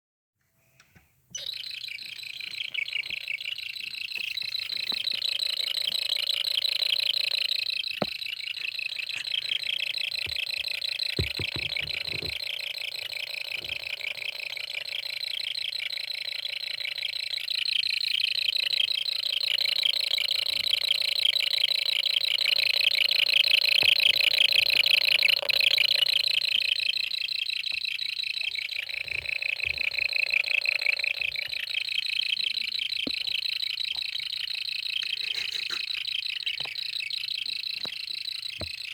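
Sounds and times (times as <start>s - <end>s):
electronic cricket-like chirping: 1.4s - 38.9s.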